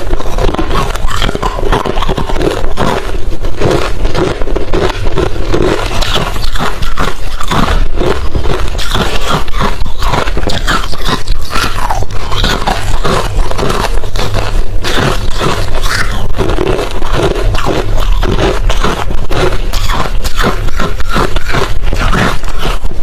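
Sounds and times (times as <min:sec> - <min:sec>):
ice being chewed: 0:00.0 - 0:23.0.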